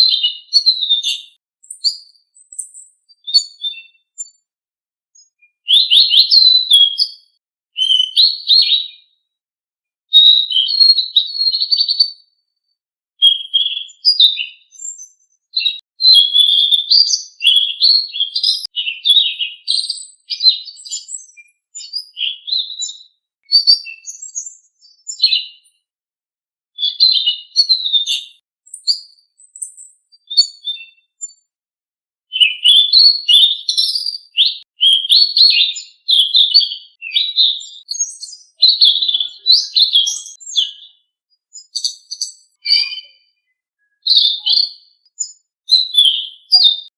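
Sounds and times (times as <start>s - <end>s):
songbird chirping and whistling: 0.0s - 4.4s, 5.2s - 9.1s, 10.2s - 12.4s, 13.2s - 25.7s, 26.8s - 31.4s, 32.3s - 46.9s.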